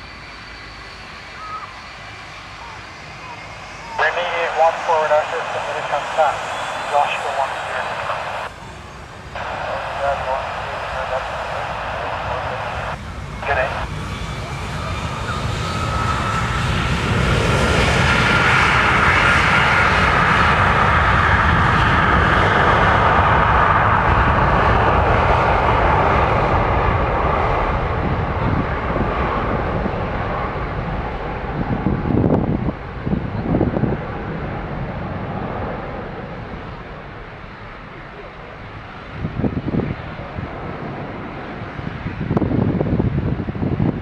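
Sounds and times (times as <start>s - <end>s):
airliner engines at takeoff power: 0.0s - 44.0s.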